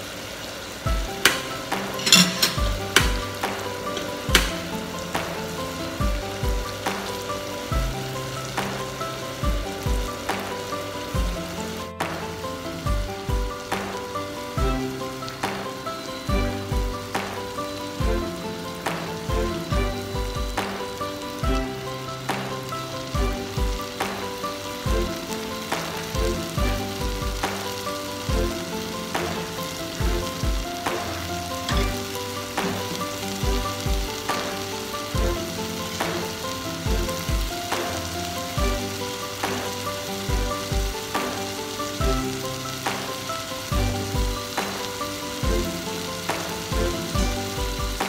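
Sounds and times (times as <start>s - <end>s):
vegetables sizzling in a pot: 0.0s - 48.0s
background music with steady beat: 0.9s - 48.0s.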